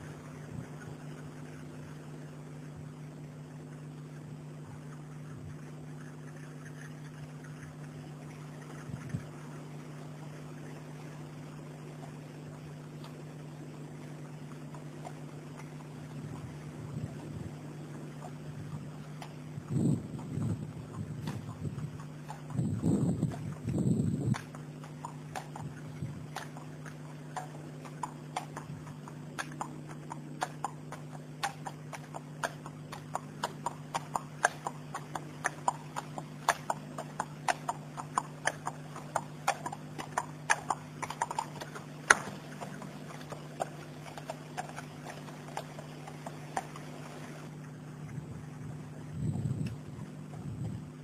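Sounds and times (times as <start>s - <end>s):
steady low hum: 0.0s - 51.0s
horse hooves clip-clopping: 6.9s - 51.0s.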